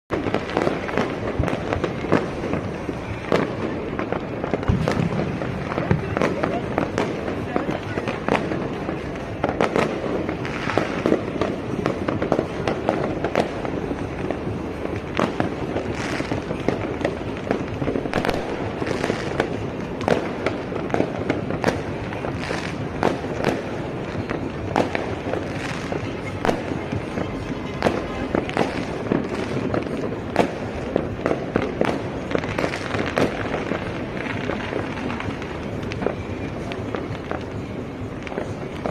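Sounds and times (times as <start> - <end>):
distant bangs and crackle: 0.1 - 38.9
fireworks and firecrackers banging: 0.1 - 38.9.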